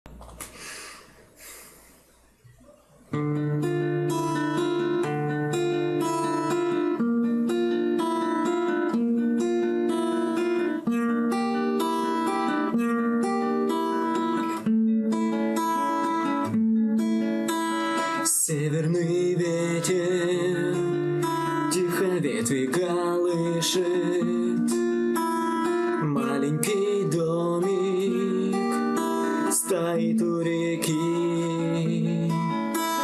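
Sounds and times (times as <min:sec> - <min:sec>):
fingerpicked acoustic guitar: 0:02.4 - 0:33.0.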